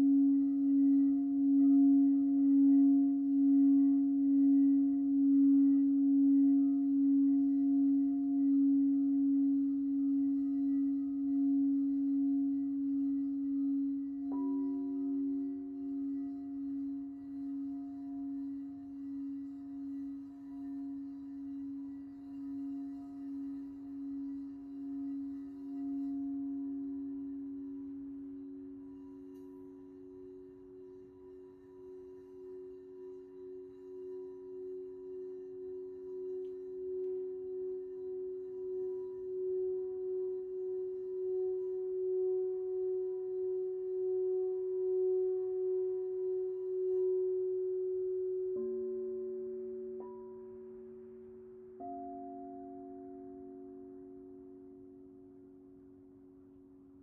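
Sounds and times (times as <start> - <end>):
low singing bowl ringing: 0.0 - 57.0.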